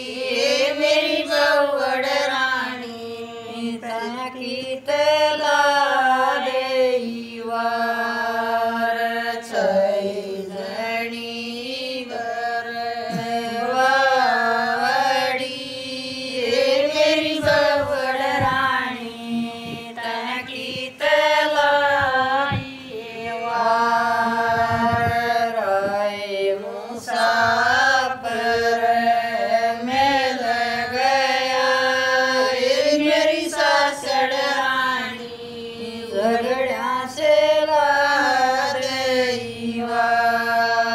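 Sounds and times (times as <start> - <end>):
women singing unaccompanied: 0.0 - 40.9.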